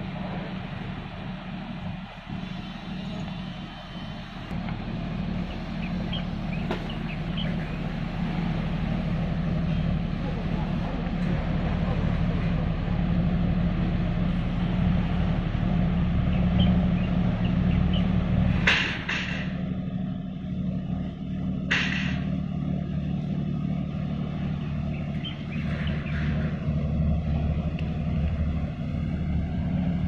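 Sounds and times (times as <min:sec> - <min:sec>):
marine engines droning: 0:00.0 - 0:30.0.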